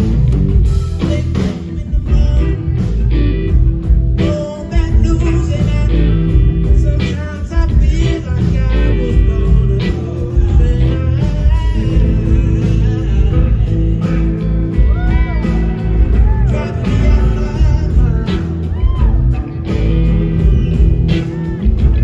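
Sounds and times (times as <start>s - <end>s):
blues-rock band playing: 0.0s - 22.0s
man singing: 0.9s - 22.0s.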